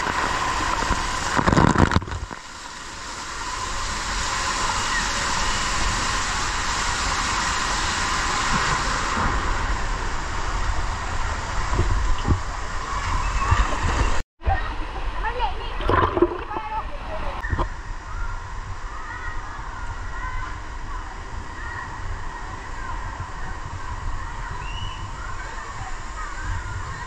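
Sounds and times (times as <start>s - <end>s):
water rushing through slide tube: 0.0s - 27.0s.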